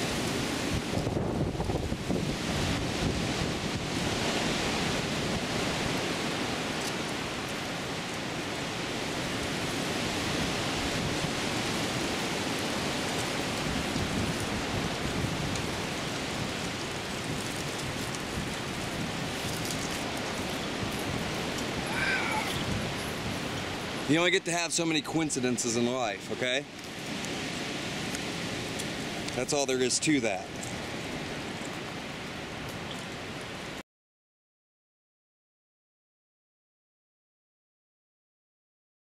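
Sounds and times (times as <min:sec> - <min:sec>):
wind rushing through bushes: 0:00.0 - 0:33.8.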